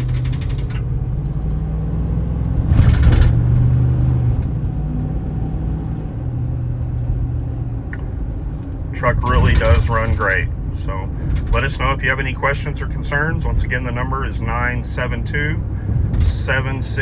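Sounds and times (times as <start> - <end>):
truck engine humming from cab: 0.0 - 17.0.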